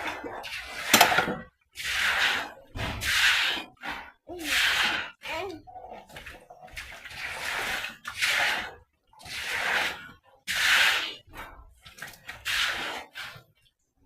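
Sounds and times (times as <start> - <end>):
water splashing: 0.0 - 13.8.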